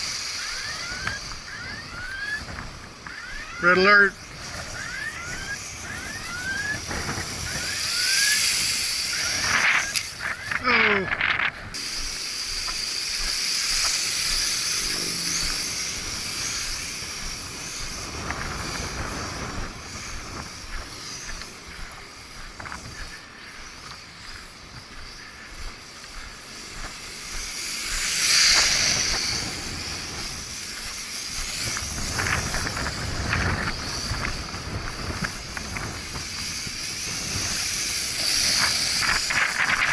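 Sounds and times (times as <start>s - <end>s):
toy drone propellers whining: 0.0s - 39.9s
wind rumbling on microphone: 0.0s - 39.9s.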